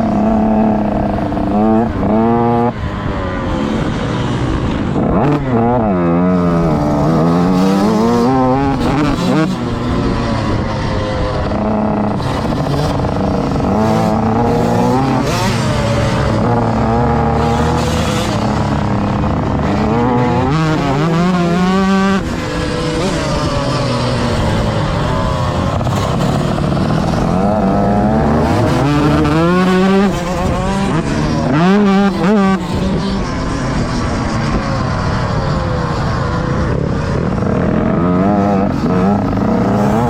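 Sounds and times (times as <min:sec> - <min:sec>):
motocross bike engine revving: 0:00.0 - 0:40.0.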